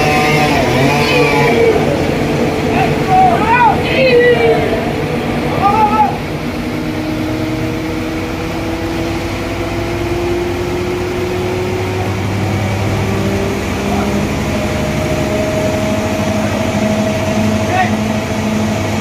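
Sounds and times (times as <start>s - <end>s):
sawmill engine humming: 0.0s - 19.0s.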